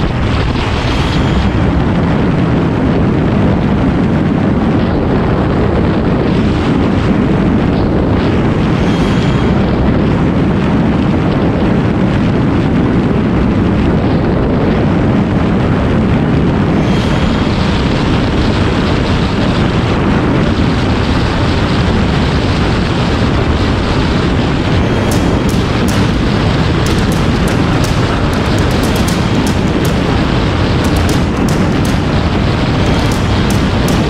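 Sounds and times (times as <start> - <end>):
wind rush on microphone: 0.0 - 34.0.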